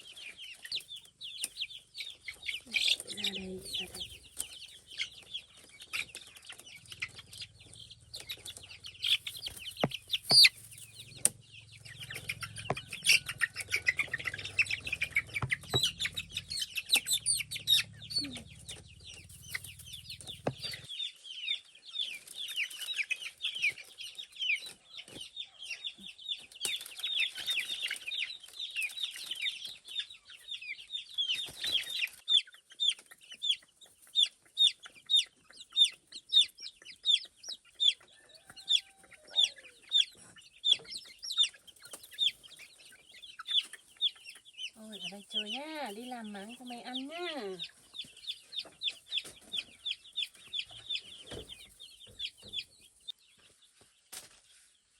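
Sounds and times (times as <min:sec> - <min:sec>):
chickens clucking and peeping: 0:00.0 - 0:54.9.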